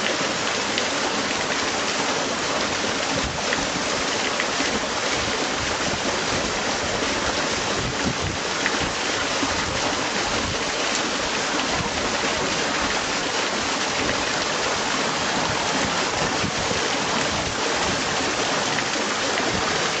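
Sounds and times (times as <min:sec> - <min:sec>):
water rushing through sluices: 0:00.0 - 0:20.0.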